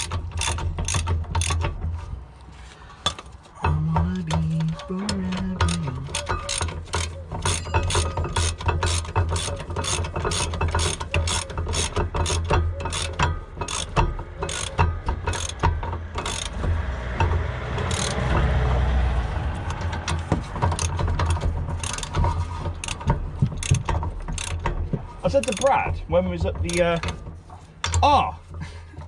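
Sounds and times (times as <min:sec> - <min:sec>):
hand ratchet clicking: 0:00.0 - 0:02.0, 0:03.0 - 0:18.7, 0:19.5 - 0:28.5.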